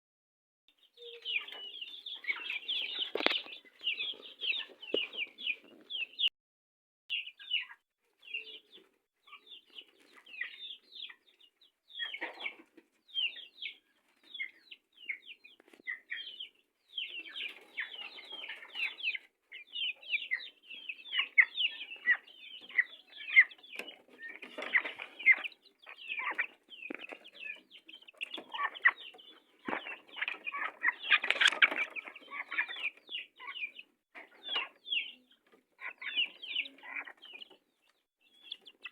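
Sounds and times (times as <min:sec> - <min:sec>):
chickens clucking and calling: 0:00.8 - 0:06.3, 0:07.1 - 0:38.9.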